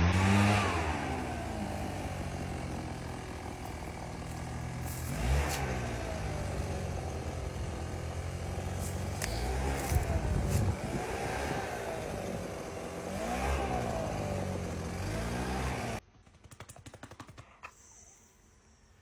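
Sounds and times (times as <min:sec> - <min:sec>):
vehicles passing by: 0:00.0 - 0:16.0.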